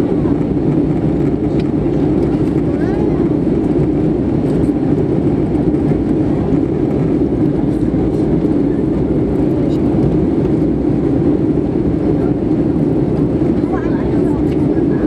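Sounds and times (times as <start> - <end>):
airplane cabin noise in flight: 0.0 - 15.0.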